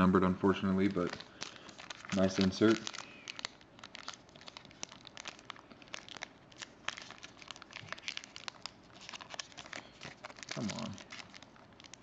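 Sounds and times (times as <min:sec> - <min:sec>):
wrapper crinkling: 0:00.8 - 0:12.0.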